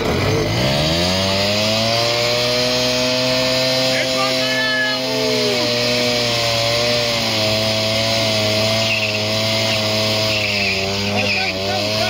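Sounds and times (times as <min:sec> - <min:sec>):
moped engine at high revs: 0:00.0 - 0:12.0.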